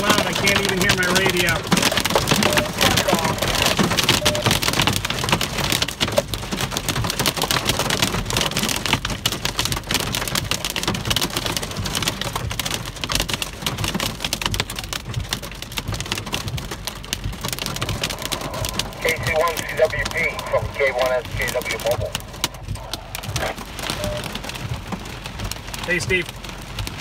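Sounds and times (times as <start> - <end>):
hail and rain on car roof: 0.0 - 27.0.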